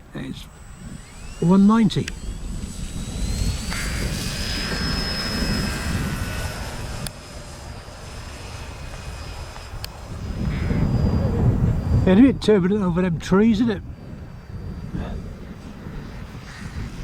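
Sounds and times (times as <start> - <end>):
wind rumble on microphone: 0.0 - 17.0
model plane motor whining: 0.3 - 17.0.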